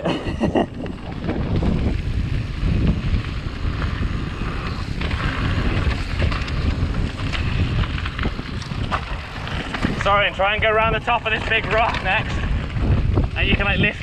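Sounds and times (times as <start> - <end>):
bike clicks and rattles: 0.0 - 14.0
bike tyres rumbling on gravel: 0.0 - 14.0
wind buffeting microphone: 0.0 - 14.0.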